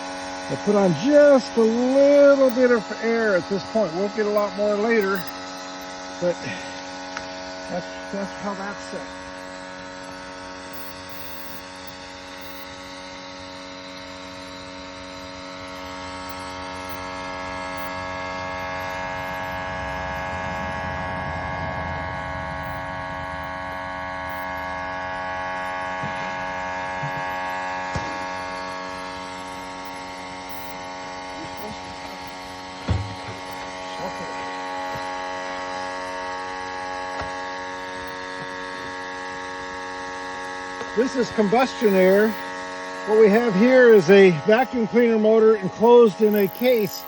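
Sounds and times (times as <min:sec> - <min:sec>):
electric motor hum: 0:00.0 - 0:47.0.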